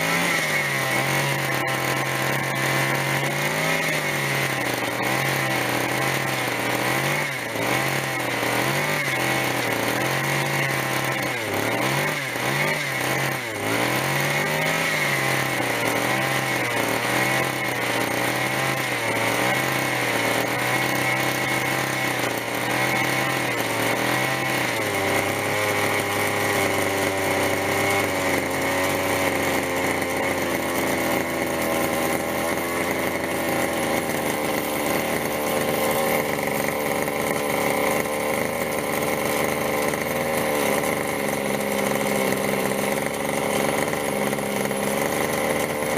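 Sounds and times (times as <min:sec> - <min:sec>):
model helicopter engine running: 0:00.0 - 0:45.9.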